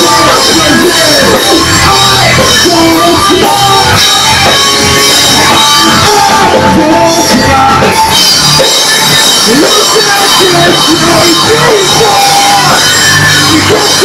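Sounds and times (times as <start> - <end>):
drums: 0.0 - 14.0
electric guitars: 0.0 - 14.0
person singing: 0.0 - 14.0.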